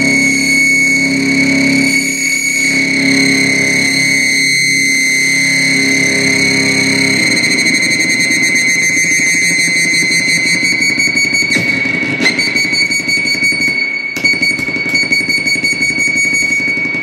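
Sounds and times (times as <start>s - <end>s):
fast pulsing buzz: 0.0s - 13.7s
high electronic whine: 0.0s - 17.0s.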